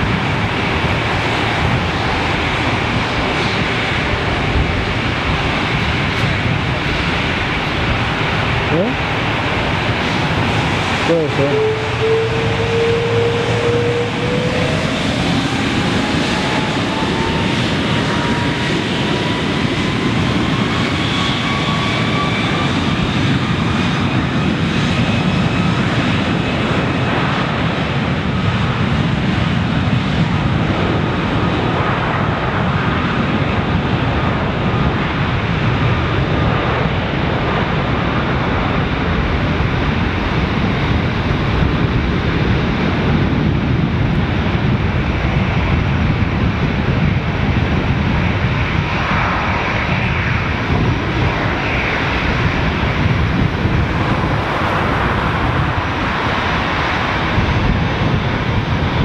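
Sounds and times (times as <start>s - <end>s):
jet engine whine rising: 0.0s - 59.0s
loud jet engine roar: 0.0s - 59.0s.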